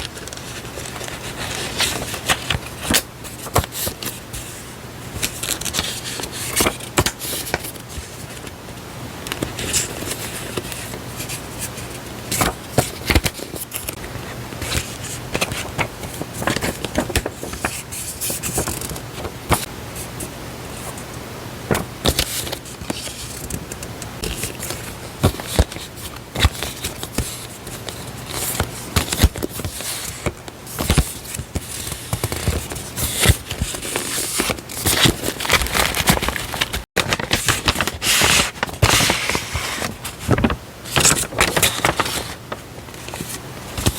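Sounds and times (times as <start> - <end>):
paper rustling and crinkling: 0.0 - 21.1, 21.7 - 43.9.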